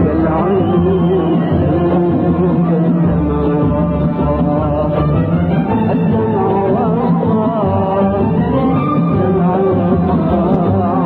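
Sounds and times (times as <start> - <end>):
man singing: 0.0 - 11.0
violin orchestra and oud: 0.0 - 11.0.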